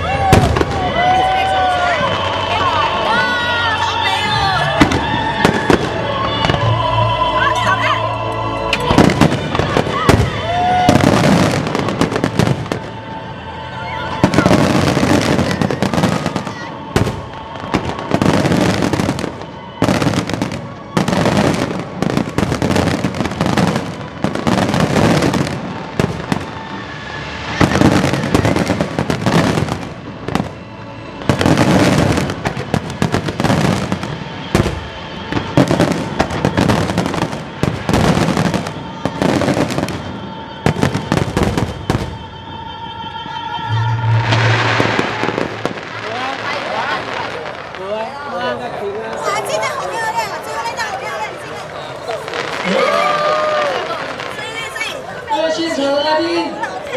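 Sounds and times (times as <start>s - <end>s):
fireworks bursting: 0.0s - 56.9s.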